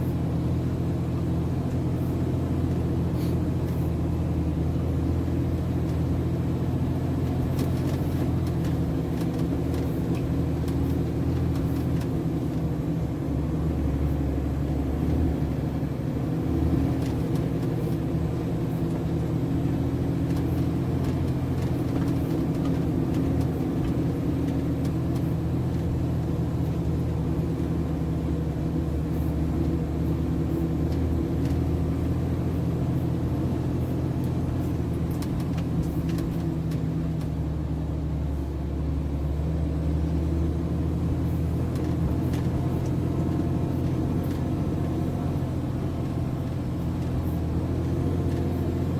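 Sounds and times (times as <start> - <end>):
truck diesel engine running: 0.0 - 48.9.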